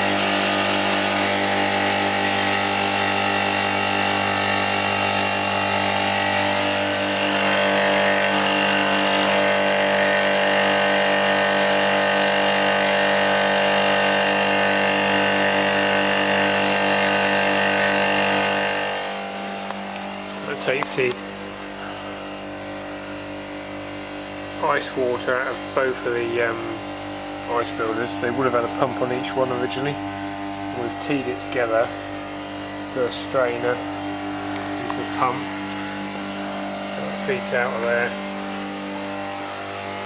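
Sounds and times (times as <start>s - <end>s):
pulsing electric motor hum: 0.0s - 40.0s.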